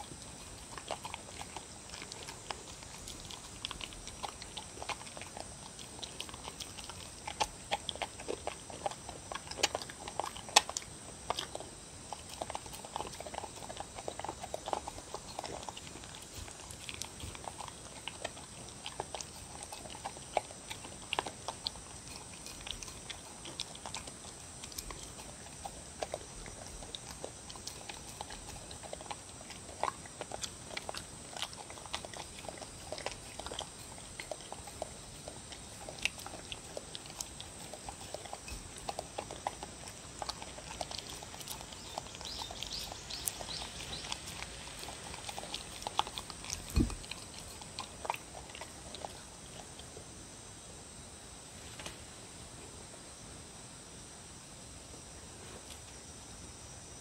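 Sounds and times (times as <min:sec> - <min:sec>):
dog lapping and chewing: 0:00.0 - 0:50.0.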